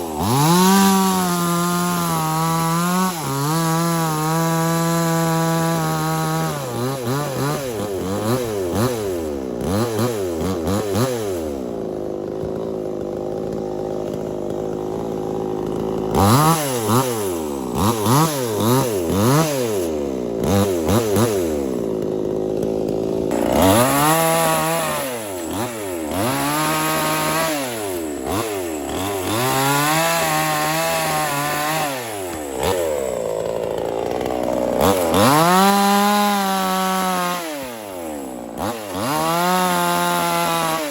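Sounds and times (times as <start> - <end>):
chainsaw revving cutting wood: 0.0 - 40.9.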